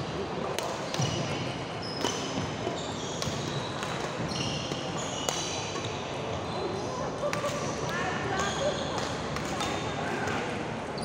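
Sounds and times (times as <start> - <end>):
sports hall background noise: 0.0 - 11.0.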